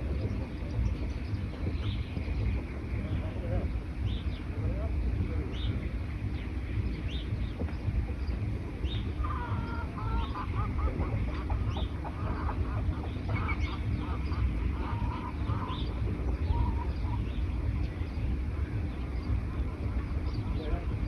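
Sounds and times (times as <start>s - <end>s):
high bird chirps: 0.0s - 21.0s
lower chattering bird call: 0.0s - 21.0s
steady low rumble: 0.0s - 21.0s.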